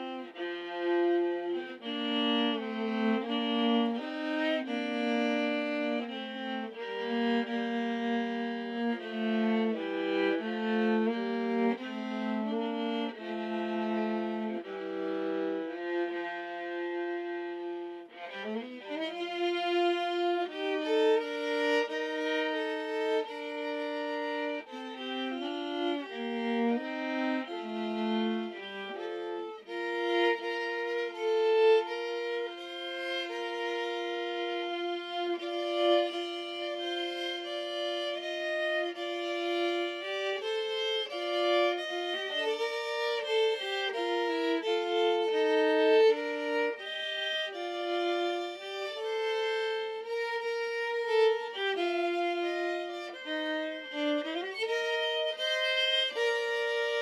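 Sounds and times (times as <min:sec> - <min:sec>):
violin duet playing slow hymn: 0:00.0 - 0:57.0.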